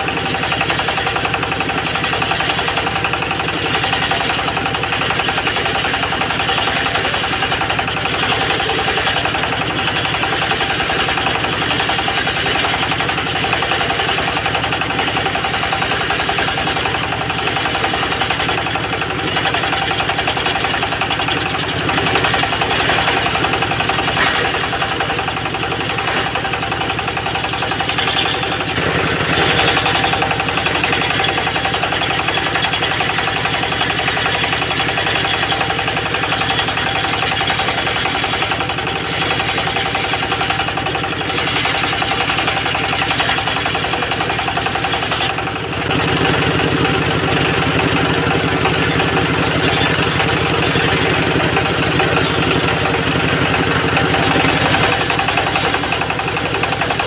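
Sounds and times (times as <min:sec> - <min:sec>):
sawmill engine running under load: 0:00.0 - 0:57.0.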